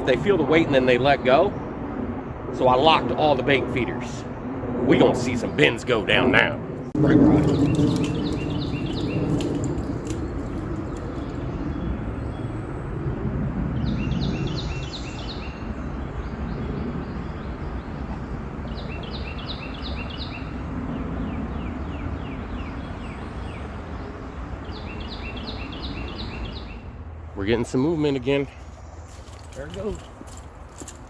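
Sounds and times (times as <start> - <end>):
songbird singing: 0.0 - 4.3, 4.9 - 13.1, 13.7 - 31.0
steady rushing outdoor noise: 0.0 - 31.0.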